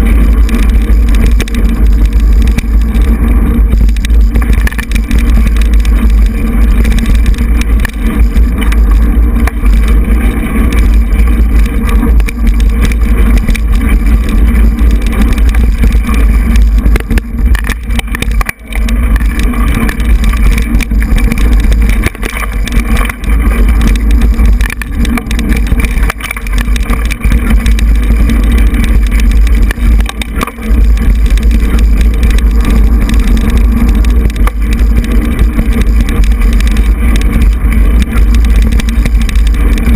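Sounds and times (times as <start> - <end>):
bike tyre and frame rattle: 0.0 - 39.9
wind buffeting microphone: 0.0 - 39.9.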